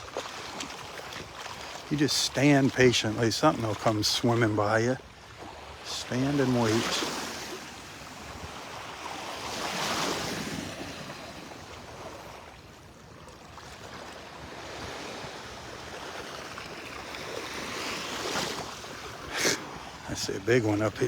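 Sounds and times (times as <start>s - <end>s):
surf lapping at shoreline: 0.0s - 21.0s.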